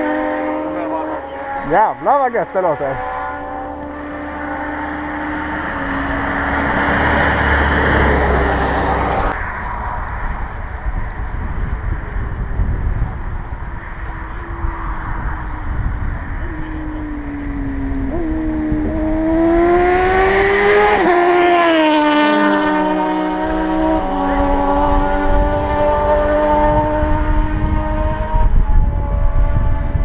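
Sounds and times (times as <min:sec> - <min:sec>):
motorcycle driving by: 0:00.0 - 0:10.4, 0:11.3 - 0:30.0.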